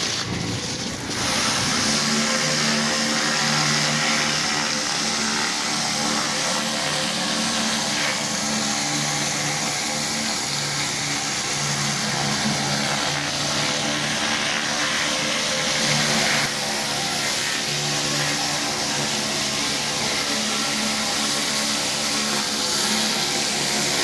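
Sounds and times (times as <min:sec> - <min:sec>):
pressure washer running: 0:00.0 - 0:24.0.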